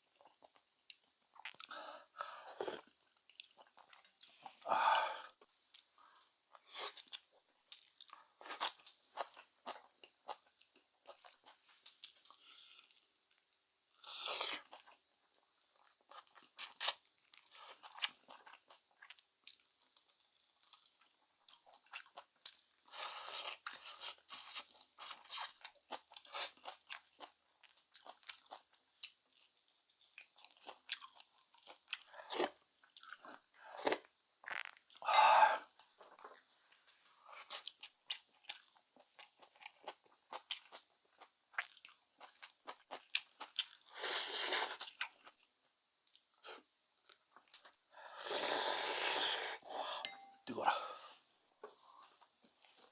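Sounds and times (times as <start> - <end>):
person chewing and crunching: 0.1 - 1.8, 2.5 - 5.9, 6.5 - 13.4, 14.0 - 36.5, 37.2 - 46.4.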